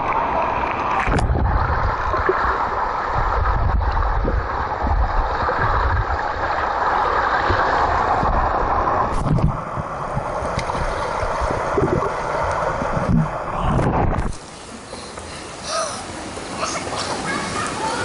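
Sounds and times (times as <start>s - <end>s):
muffled underwater rumble: 0.0s - 15.8s.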